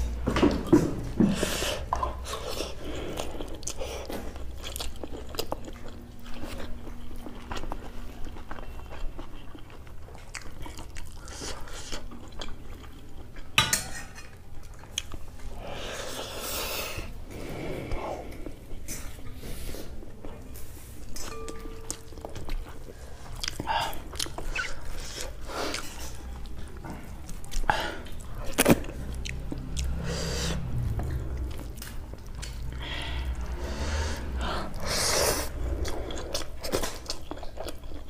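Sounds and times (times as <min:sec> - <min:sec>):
person chewing: 0:00.5 - 0:13.6, 0:14.4 - 0:17.2, 0:21.1 - 0:38.0.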